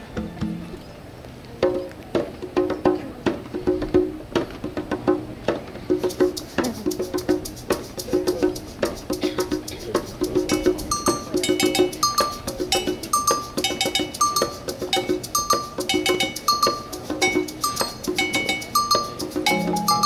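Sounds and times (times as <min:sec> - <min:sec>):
marching band percussion: 0:03.9 - 0:20.0.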